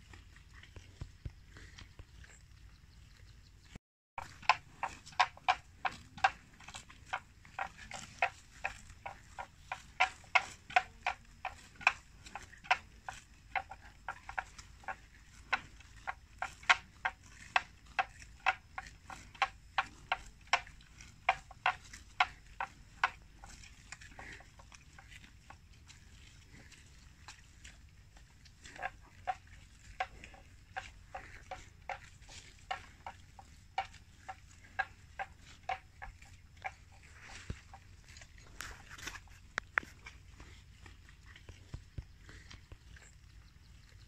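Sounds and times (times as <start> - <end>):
buffalo chewing with crunching clicks: 0.0 - 44.0.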